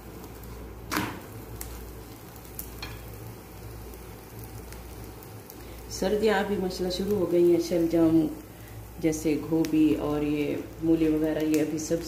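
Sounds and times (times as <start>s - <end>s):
flatbread sizzling in oil: 0.0s - 12.0s.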